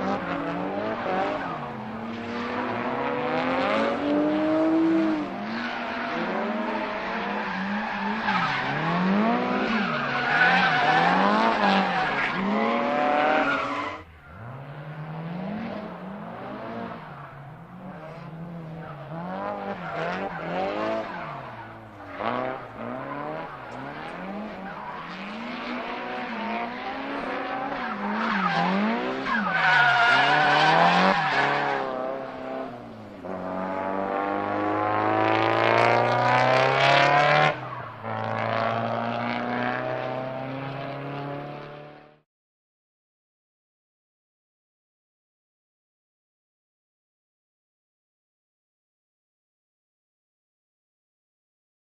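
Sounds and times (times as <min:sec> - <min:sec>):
car engine revving: 0:00.0 - 0:42.1.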